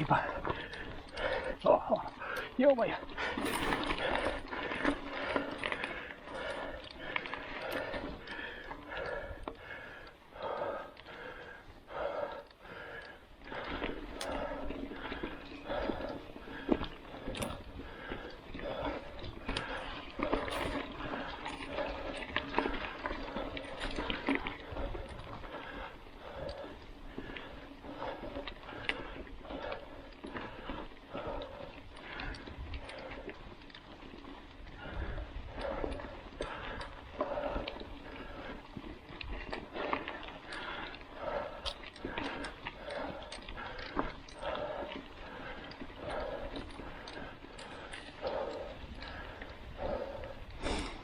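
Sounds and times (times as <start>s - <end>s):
bike clicks and rattles: 0.0s - 51.0s
heavy rhythmic breathing: 0.0s - 51.0s.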